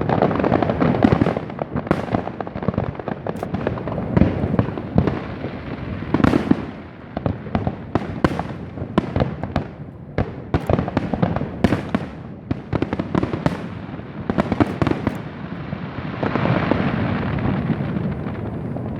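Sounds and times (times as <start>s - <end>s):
fireworks cracking and banging: 0.0s - 18.9s.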